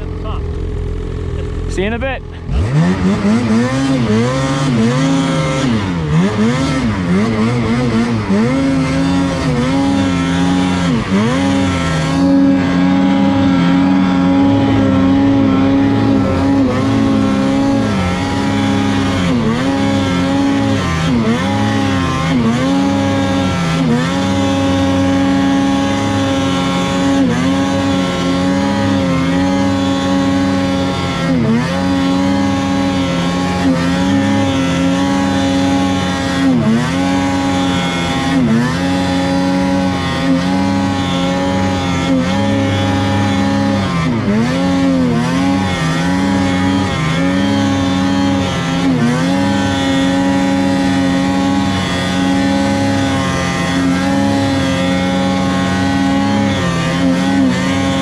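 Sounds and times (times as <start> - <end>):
snowmobile engine at full throttle: 0.0 - 58.0.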